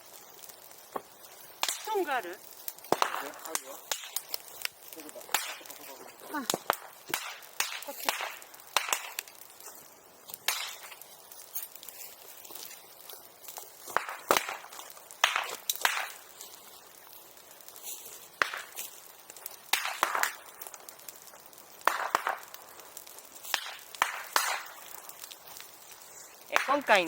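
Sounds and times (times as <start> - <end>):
bonfire crackling: 0.0 - 27.0
sharp pops and cracks: 0.0 - 27.0.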